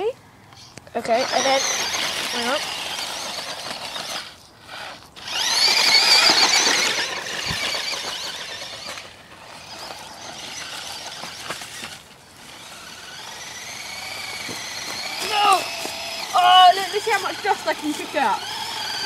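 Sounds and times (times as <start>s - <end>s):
toy car electric motor whining: 0.6s - 19.0s.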